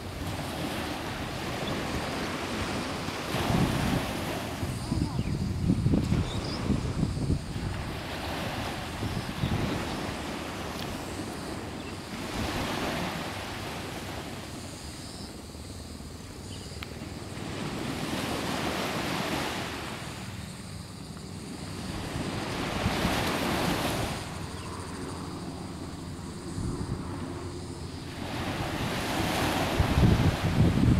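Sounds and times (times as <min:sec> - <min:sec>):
waves washing up sandy beach: 0:00.0 - 0:30.9.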